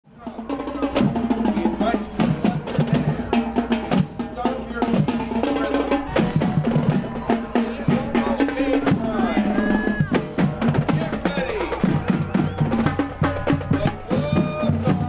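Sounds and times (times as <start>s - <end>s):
bass drums beating: 0.1s - 15.0s
snare drums: 0.1s - 15.0s.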